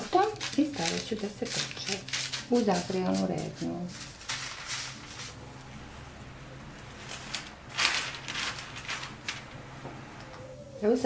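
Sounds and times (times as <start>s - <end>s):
plastic film crinkling: 0.0s - 5.8s, 6.8s - 10.4s
baking paper rustling: 0.0s - 6.1s, 6.7s - 11.0s.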